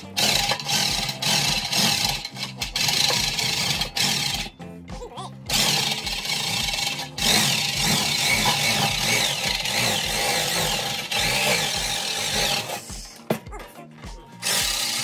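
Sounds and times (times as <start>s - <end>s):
electric nibbler rasping through steel: 0.0s - 4.5s, 5.5s - 13.2s, 14.4s - 15.0s
background music with beat: 0.0s - 15.0s.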